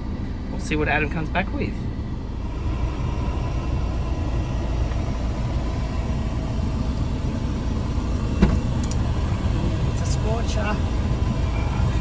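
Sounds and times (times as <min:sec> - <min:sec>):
faint steady hum: 0:00.0 - 0:12.0
low vehicle rumble: 0:00.0 - 0:12.0.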